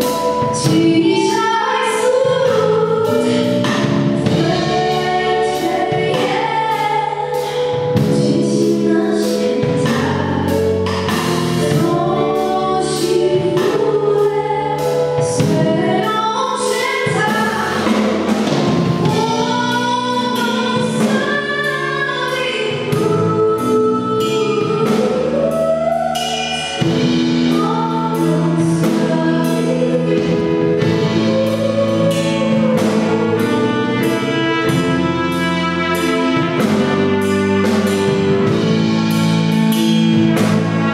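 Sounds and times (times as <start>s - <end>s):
steady drum beat: 2.2s - 40.9s.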